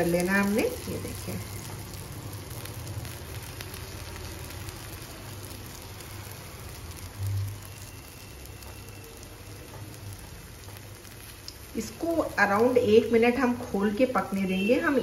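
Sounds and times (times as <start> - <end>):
batter sizzling in pan: 0.0 - 15.0.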